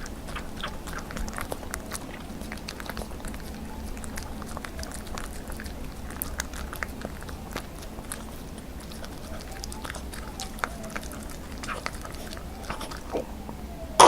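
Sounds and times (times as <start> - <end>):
puppy chewing meat: 0.0 - 14.0.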